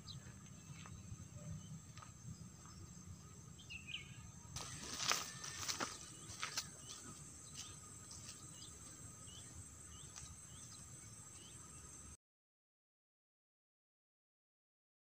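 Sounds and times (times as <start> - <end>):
cricket chirps: 0.0 - 12.2
insects trilling: 0.0 - 12.2.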